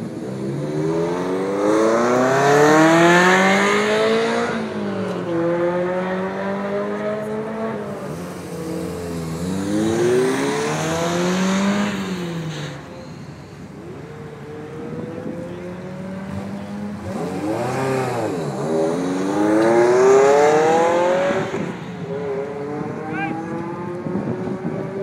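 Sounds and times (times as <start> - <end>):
sports cars accelerating hard: 0.0 - 25.0.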